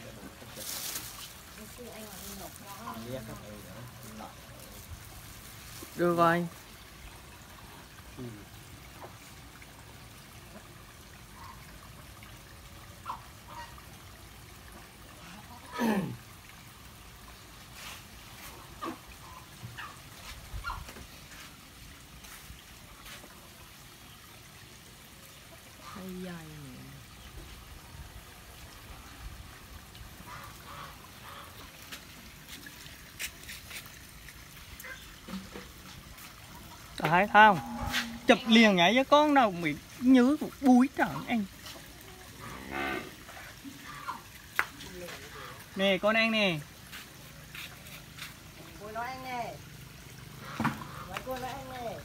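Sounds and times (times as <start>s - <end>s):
faint trickle of running water: 0.0s - 52.0s.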